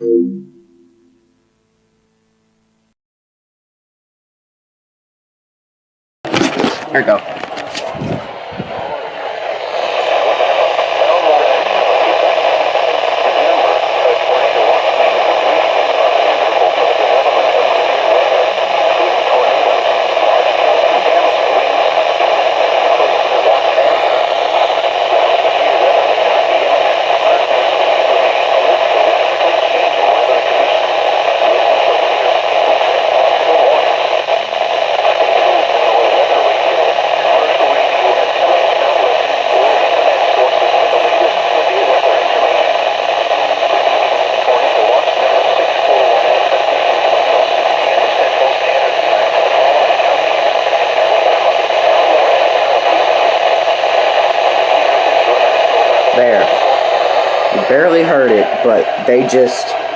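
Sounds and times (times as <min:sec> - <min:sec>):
radio static hiss: 0:06.3 - 0:59.9.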